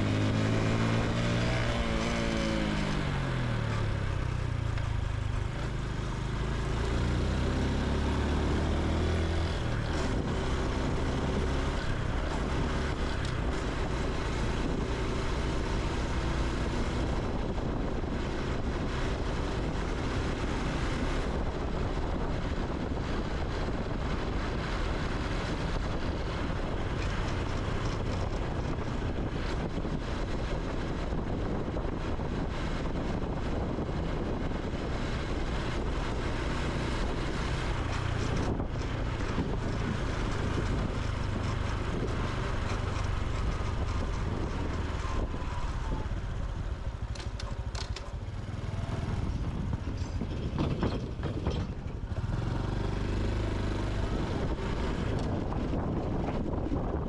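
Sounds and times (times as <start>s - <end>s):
motorcycle engine: 0.0s - 57.0s
wind and road noise: 0.0s - 57.0s.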